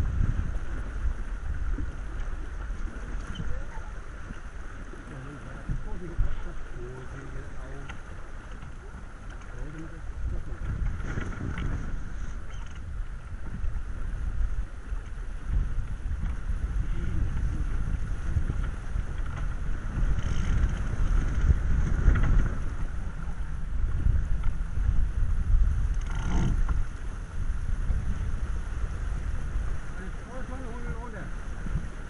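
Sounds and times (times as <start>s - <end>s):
water rushing along hull: 0.0s - 32.0s
wind buffeting microphone: 0.0s - 32.0s.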